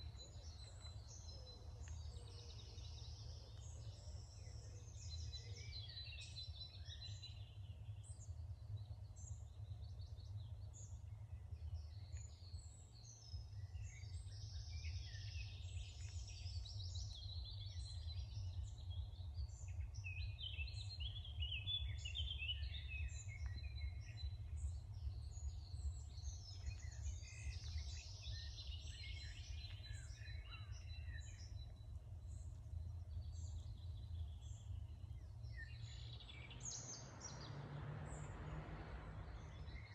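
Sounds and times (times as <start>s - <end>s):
songbirds chirping and trilling: 0.0s - 39.9s
steady low rumble: 6.5s - 39.9s.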